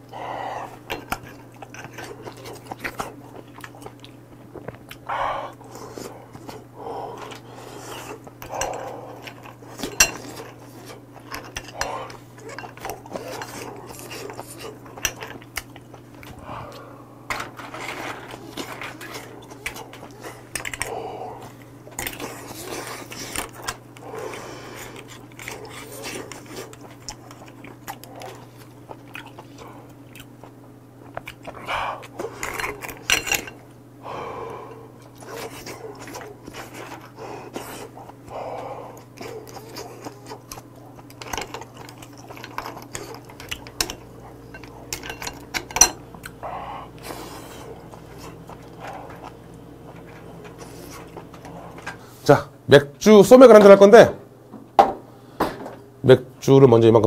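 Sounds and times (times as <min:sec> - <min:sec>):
chewing and mouth noises: 0:00.0 - 0:33.8, 0:34.5 - 0:52.2
steady low hum: 0:00.0 - 0:57.0.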